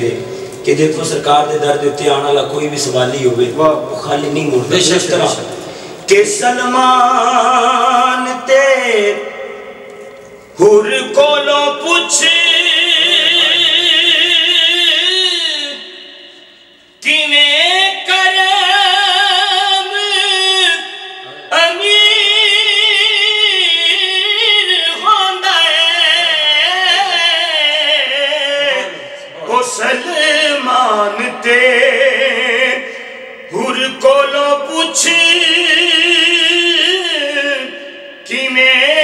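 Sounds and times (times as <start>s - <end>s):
man singing unaccompanied: 6.1s - 9.9s, 10.6s - 16.0s, 17.0s - 39.0s.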